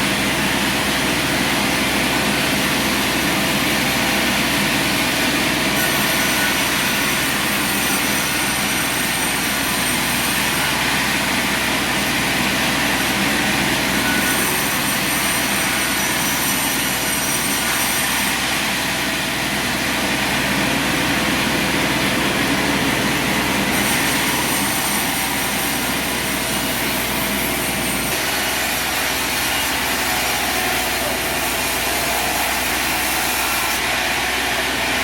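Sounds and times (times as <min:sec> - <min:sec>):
sawmill machine noise: 0:00.0 - 0:35.0.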